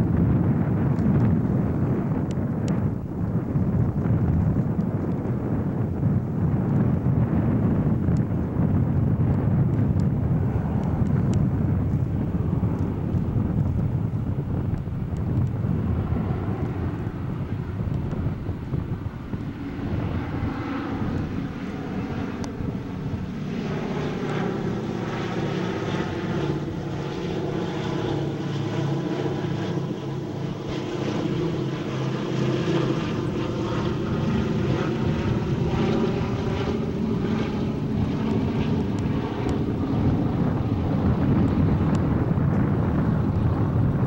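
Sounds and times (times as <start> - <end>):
propeller aircraft droning overhead: 0.0 - 44.0.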